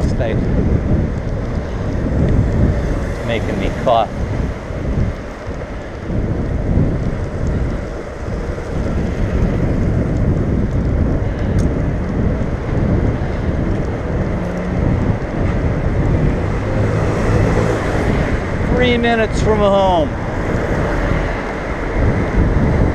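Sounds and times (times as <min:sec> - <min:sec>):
tyre and road noise: 0:00.0 - 0:22.9
wind buffeting microphone: 0:00.0 - 0:22.9.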